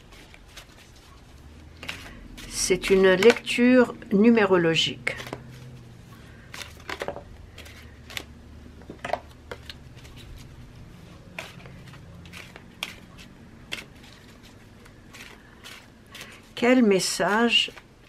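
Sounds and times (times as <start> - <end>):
cards being shuffled: 0.0 - 3.6, 4.8 - 18.0.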